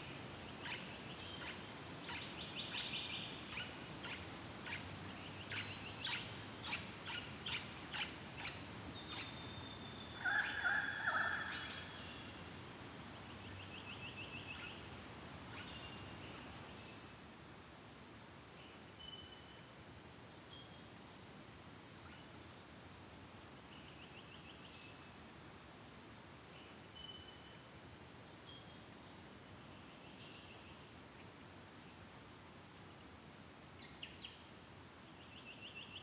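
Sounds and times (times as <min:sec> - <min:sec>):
faint outdoor hiss: 0:00.0 - 0:36.0.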